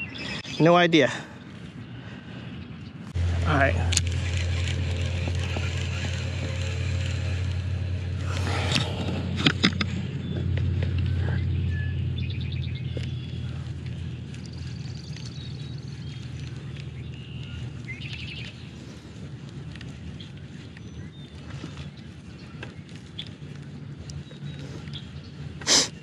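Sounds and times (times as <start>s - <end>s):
birds chirping in trills: 0.0s - 26.0s
steady low rumble: 1.4s - 26.0s.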